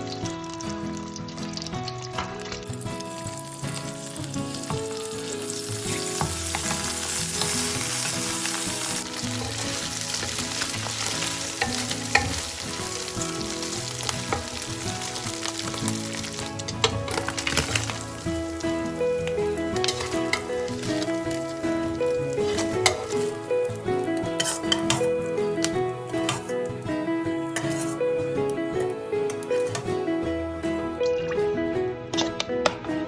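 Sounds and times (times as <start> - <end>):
food sizzling in hot oil: 0.0 - 30.1.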